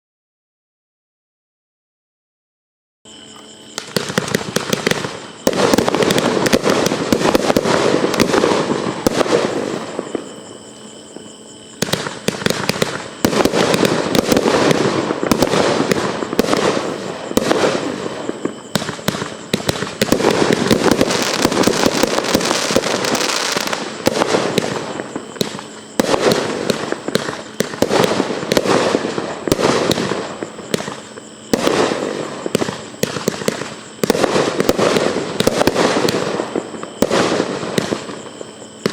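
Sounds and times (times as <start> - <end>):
fireworks barrage with crackling: 3.1 - 38.9.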